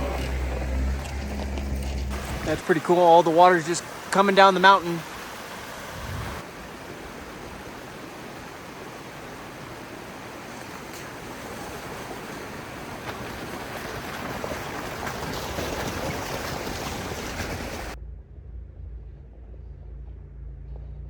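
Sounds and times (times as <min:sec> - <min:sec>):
rushing creek water: 0:00.0 - 0:18.0
low engine hum: 0:00.0 - 0:21.0.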